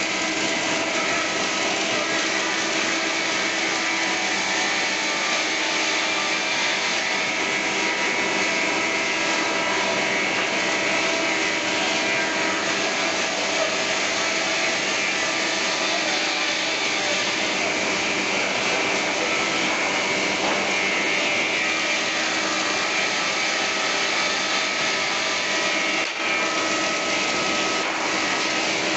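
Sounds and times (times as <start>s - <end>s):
thickness planer planing wood: 0.0s - 28.9s.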